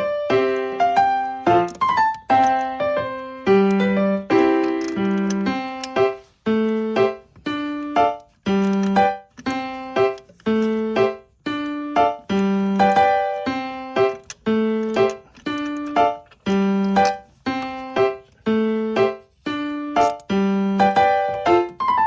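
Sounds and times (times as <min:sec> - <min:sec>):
slow piano notes: 0:00.0 - 0:22.0.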